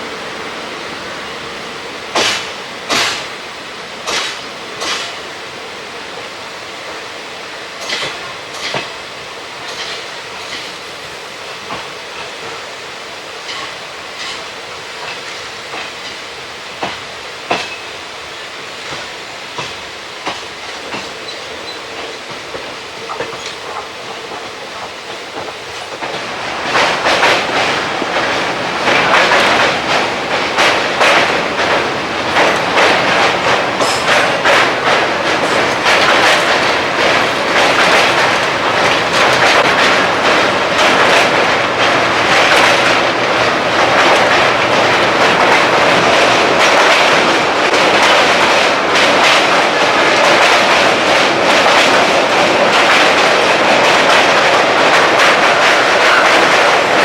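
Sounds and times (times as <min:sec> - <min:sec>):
train wheels roaring on rail: 0:00.0 - 0:57.0
clickety-clack over rail joints: 0:02.1 - 0:03.4, 0:04.0 - 0:05.4, 0:06.0 - 0:57.0.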